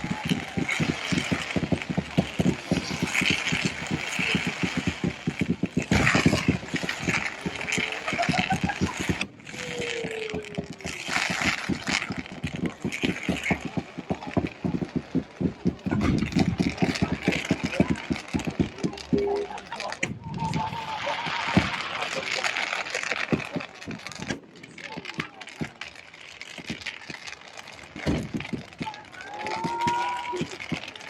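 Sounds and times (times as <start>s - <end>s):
crowd voices: 0.0s - 31.0s
firework whistles: 0.0s - 31.0s
fireworks crackling: 0.0s - 31.0s.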